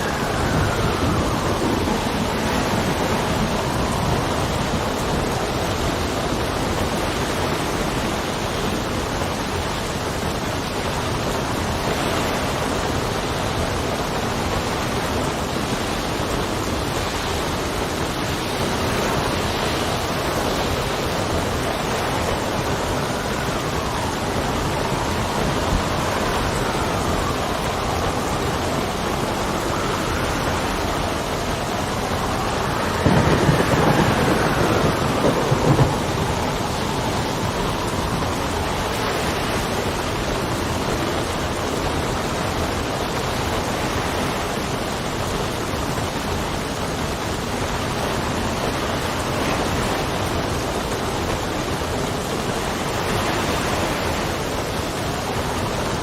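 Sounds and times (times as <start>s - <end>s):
faint wind whistle: 0.0s - 56.0s
rain and wind hiss: 0.0s - 56.0s.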